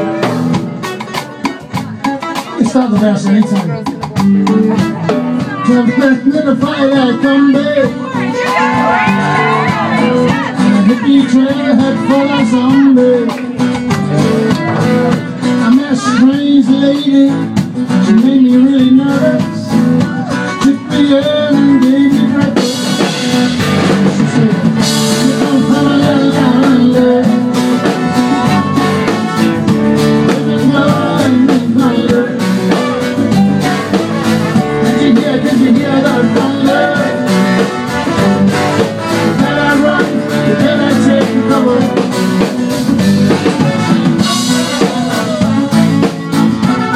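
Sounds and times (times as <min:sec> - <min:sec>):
live band music: 0:00.0 - 0:46.9
person singing: 0:00.0 - 0:46.9.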